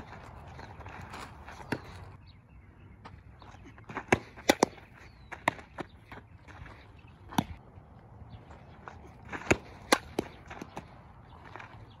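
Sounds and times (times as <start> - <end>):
feet on dirt: 0.0 - 12.0.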